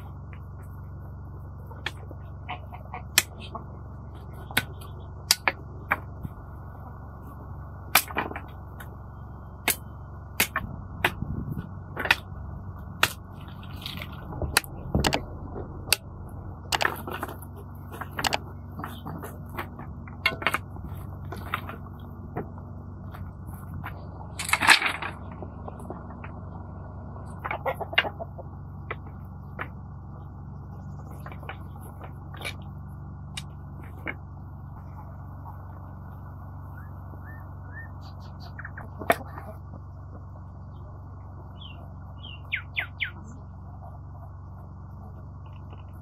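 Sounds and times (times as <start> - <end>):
low background hum: 0.0 - 46.0.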